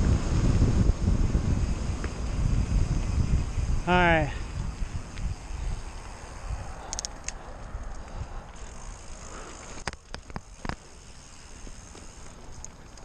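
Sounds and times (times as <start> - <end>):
wind rumble on microphone: 0.0 - 10.8
bicycle tyre noise: 0.0 - 13.0.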